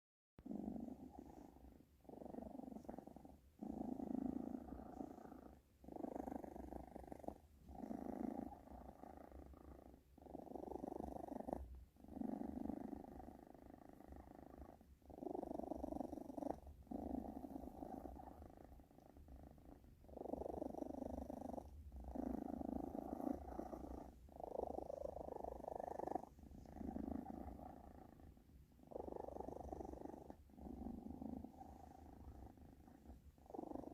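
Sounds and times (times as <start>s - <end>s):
cat purring: 0.4s - 33.9s.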